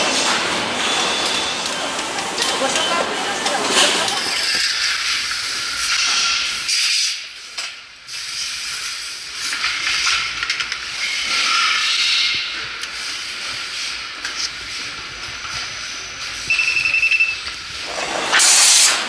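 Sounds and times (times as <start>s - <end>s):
factory hissing noise: 0.0s - 16.5s, 17.4s - 19.0s.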